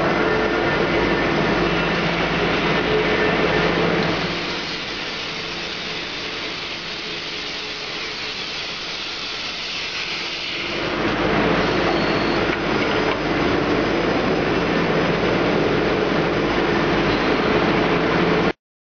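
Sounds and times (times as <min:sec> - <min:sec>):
metal grooving machine running: 0:00.0 - 0:18.5.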